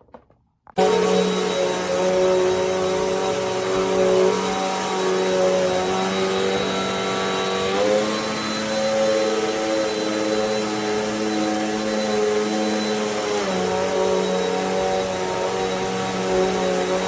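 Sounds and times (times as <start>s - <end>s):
vacuum cleaner motor hum: 0.8s - 17.0s.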